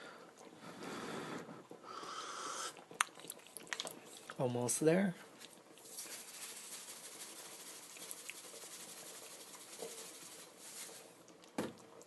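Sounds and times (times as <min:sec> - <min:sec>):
pot simmering with fizzing bubbles: 0:00.0 - 0:12.0.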